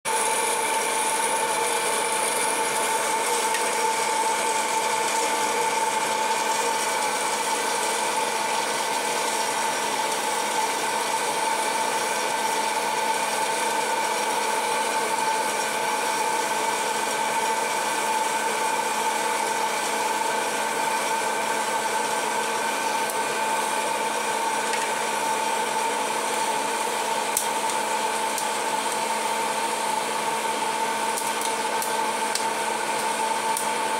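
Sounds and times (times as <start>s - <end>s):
popcorn popper fan whirring: 0.1s - 33.9s.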